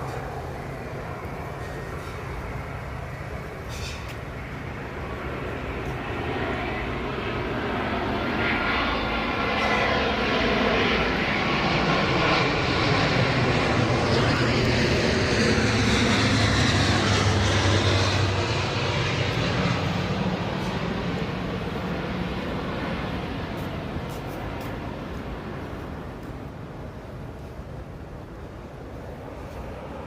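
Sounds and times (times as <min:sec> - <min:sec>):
jet airliner passing: 0:00.0 - 0:30.0
jet engine whine sliding down: 0:00.0 - 0:30.0.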